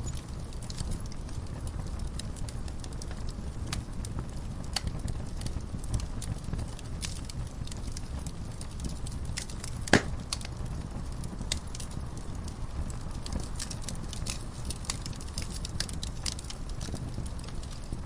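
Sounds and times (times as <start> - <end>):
low rumble of flames: 0.0 - 18.0
wood fire crackling and popping: 0.0 - 18.0.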